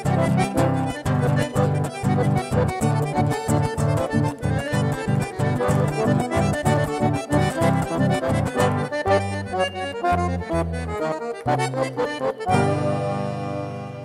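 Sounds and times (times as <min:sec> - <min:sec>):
button accordion folk music: 0:00.0 - 0:14.0.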